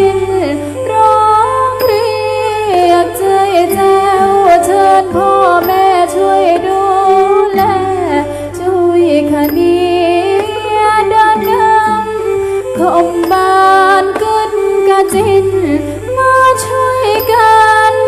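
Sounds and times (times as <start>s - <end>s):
light percussion: 0.0s - 18.0s
traditional ensemble music: 0.0s - 18.0s.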